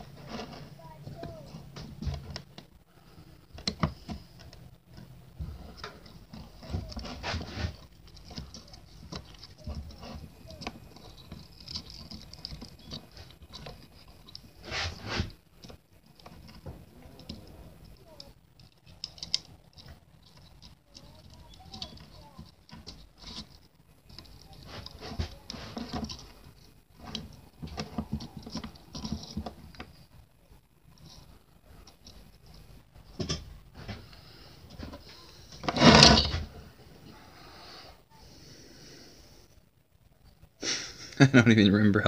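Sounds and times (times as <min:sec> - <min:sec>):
small parts clicking and scraping: 0:00.0 - 0:37.3.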